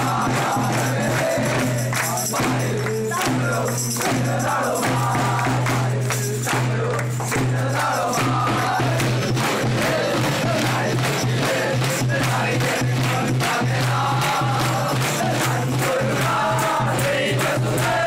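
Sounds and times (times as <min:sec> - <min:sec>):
group singing a carol: 0:00.0 - 0:18.0
tambourine strikes: 0:00.0 - 0:18.0.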